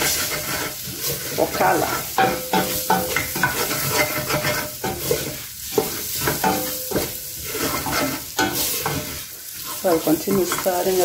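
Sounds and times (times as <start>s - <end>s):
food sizzling in a pot: 0.0s - 11.0s
wooden spoon scraping a pot: 0.0s - 11.0s.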